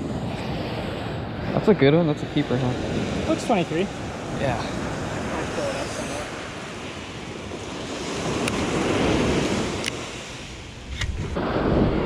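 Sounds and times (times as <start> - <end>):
ocean surf on sandy beach: 0.0 - 12.0
wind rumbling on microphone: 0.0 - 12.0.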